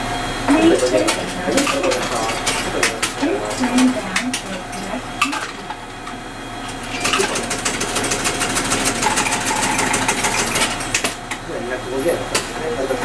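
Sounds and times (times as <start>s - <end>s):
rapid mechanical clattering: 0.5s - 13.0s.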